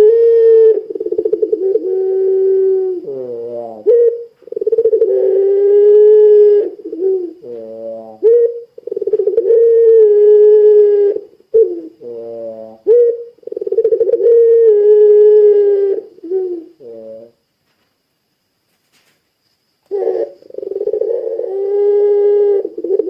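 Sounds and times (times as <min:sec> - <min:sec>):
dove cooing: 0:00.0 - 0:17.4, 0:19.9 - 0:23.0.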